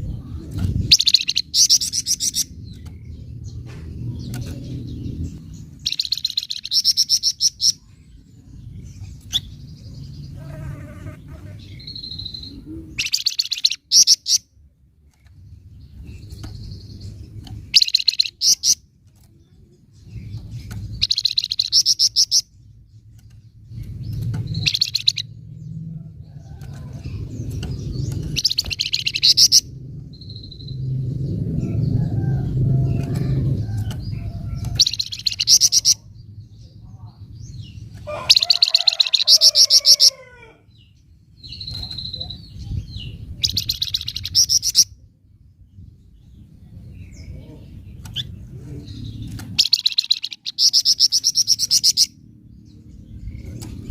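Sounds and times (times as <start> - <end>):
low rumbling background noise: 0.0 - 53.9.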